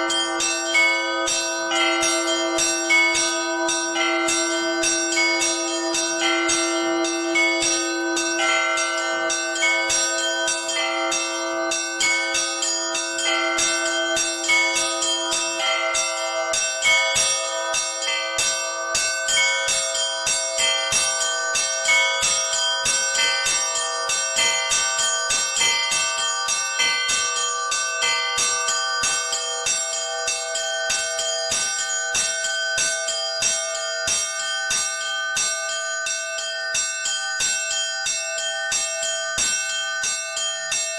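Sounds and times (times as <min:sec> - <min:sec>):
large bells ringing: 0:00.0 - 0:40.9
small bells striking fast: 0:00.0 - 0:40.9.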